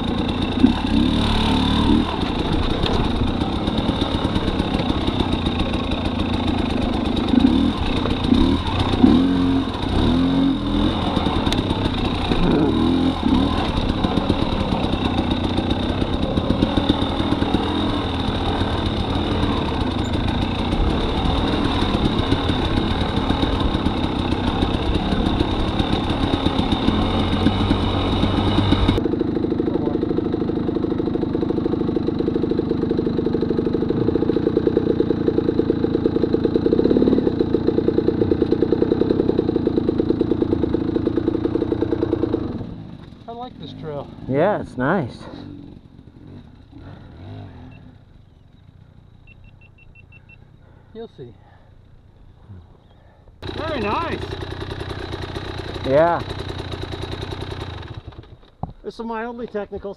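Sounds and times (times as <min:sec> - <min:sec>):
dirt bike engine revving: 0:00.0 - 0:50.3, 0:53.4 - 0:58.4.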